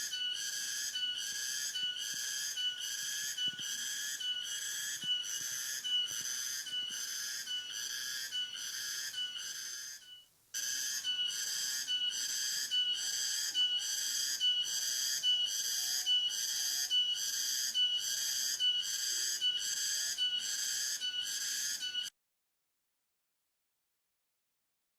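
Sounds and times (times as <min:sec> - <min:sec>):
high-pitched whistling tone: 0:00.0 - 0:22.1.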